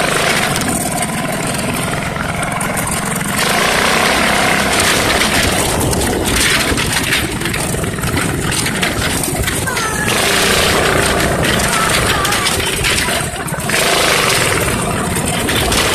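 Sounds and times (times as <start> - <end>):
go-kart engine running: 0.0 - 15.9.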